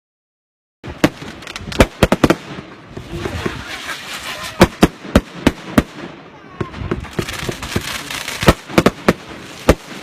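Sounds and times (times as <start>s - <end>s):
fireworks bangs: 0.8s - 10.0s
fireworks crackling: 0.8s - 10.0s.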